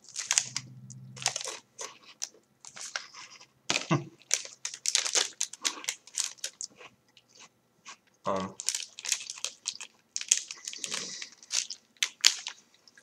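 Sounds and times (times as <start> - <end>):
person chewing crunchy snack: 0.0 - 8.0, 8.6 - 13.0.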